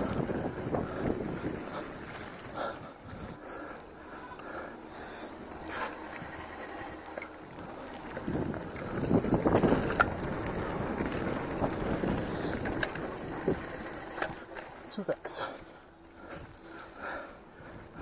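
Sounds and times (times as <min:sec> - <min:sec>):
bike rattling: 0:00.0 - 0:18.0
bike tyres rolling on dirt: 0:00.0 - 0:18.0.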